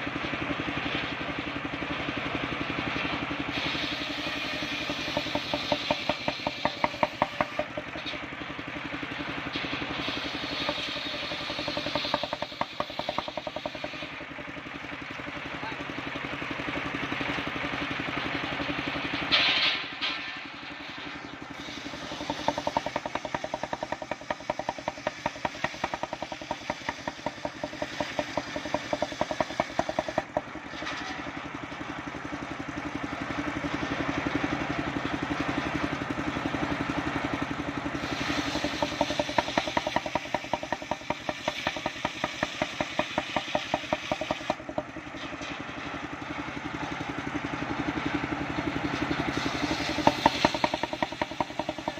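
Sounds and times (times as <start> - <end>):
circular sawmill cutting wood: 0.0 - 51.9.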